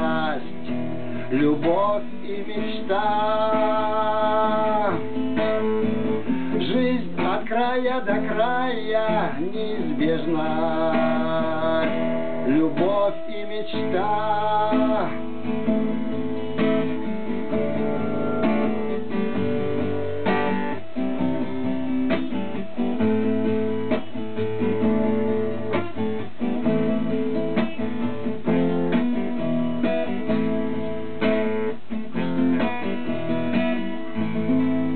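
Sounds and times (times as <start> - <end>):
acoustic guitar strumming: 0.0 - 34.9.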